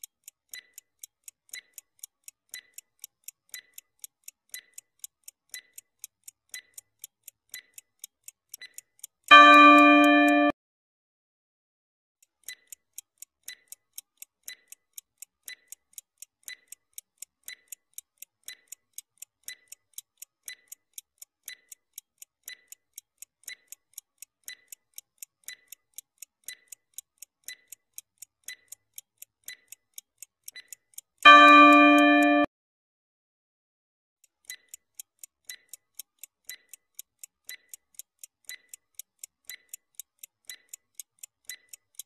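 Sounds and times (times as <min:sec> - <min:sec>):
stopwatch ticking: 0:00.0 - 0:10.5, 0:12.2 - 0:32.5, 0:34.2 - 0:42.0.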